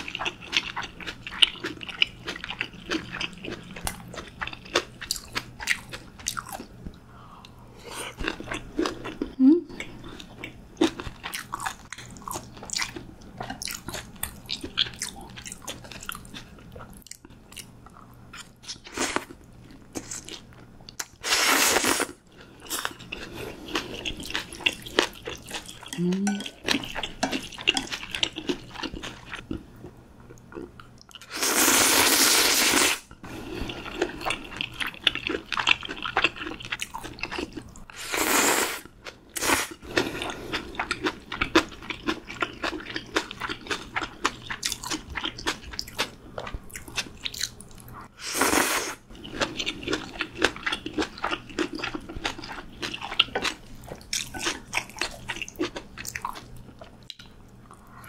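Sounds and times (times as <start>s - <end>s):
chewing and crunching food: 0.0s - 21.2s, 21.8s - 31.3s, 33.1s - 38.0s, 38.8s - 48.2s, 49.0s - 58.0s.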